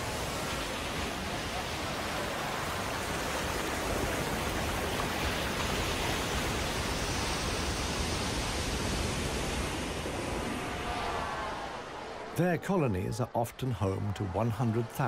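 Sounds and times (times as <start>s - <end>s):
ocean surf breaking on rocks: 0.0s - 13.4s.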